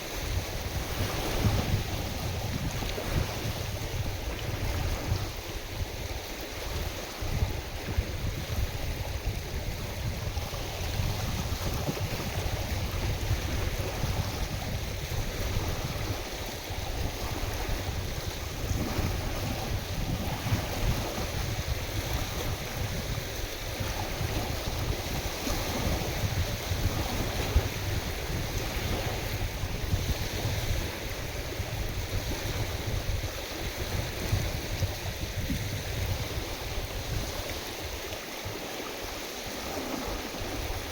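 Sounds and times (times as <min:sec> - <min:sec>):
waves washing on a lake: 0:00.0 - 0:40.9
wind buffeting microphone: 0:00.0 - 0:40.9.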